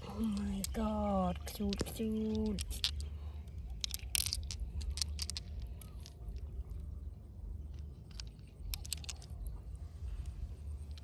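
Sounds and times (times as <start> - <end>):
marbles and stones clicking: 0.0 - 9.6, 10.2 - 11.0
low steady rumble: 0.0 - 11.0.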